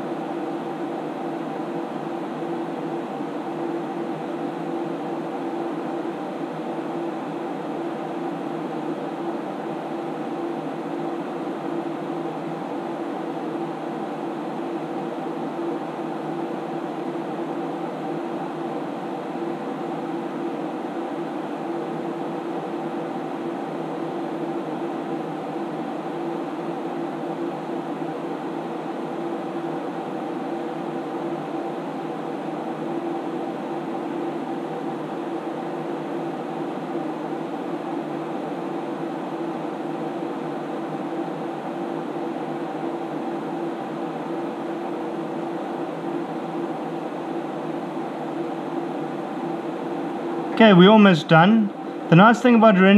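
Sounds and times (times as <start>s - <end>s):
computer cooling fans whirring: 0.0s - 52.9s.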